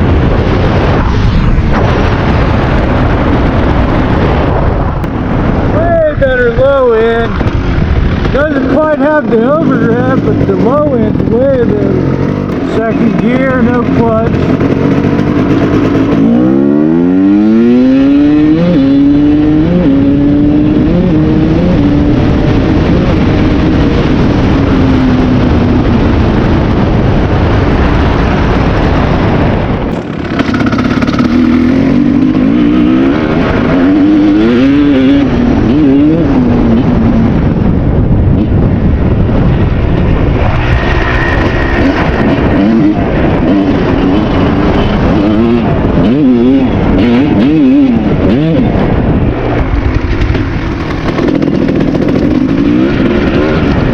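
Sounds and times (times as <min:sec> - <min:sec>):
two-stroke motorcycle engine revving: 0:06.9 - 0:53.9.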